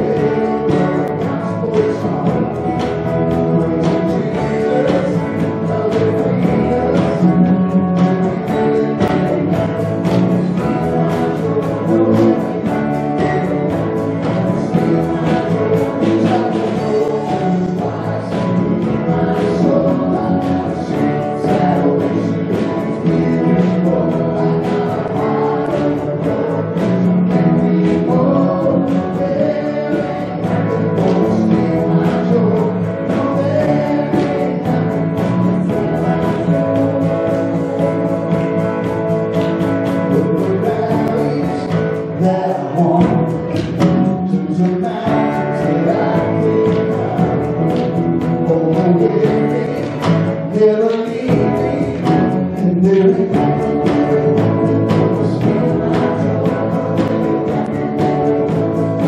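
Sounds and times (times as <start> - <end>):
acoustic guitar: 0.0 - 59.0
drums with steady beat: 0.0 - 59.0
electric bass: 0.0 - 59.0
keyboard: 0.0 - 59.0
man and woman singing: 0.0 - 59.0.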